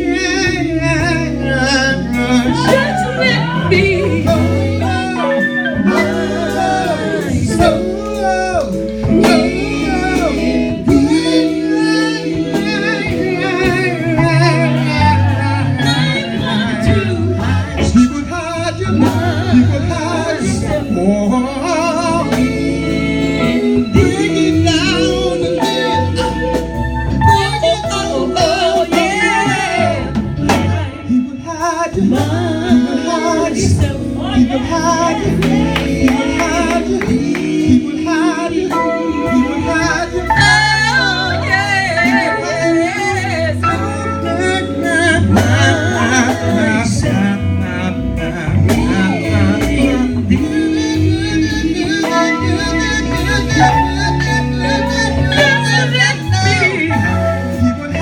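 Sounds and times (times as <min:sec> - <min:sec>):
gospel music with singers: 0:00.0 - 0:58.0.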